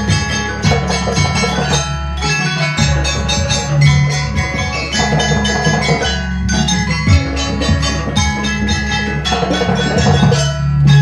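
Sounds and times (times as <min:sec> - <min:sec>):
hand drums: 0:00.0 - 0:11.0
metallophones ringing: 0:00.0 - 0:11.0.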